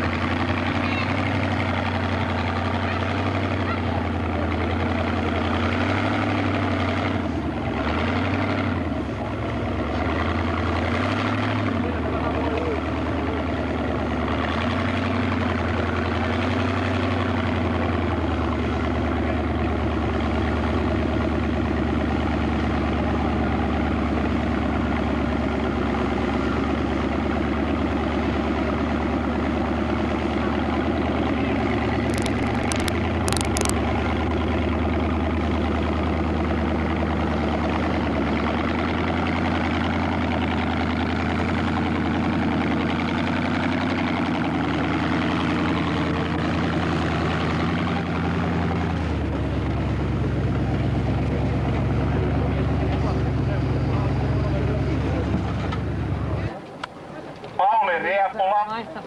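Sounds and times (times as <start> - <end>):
off-road vehicle engine rumble: 0.0 - 59.0.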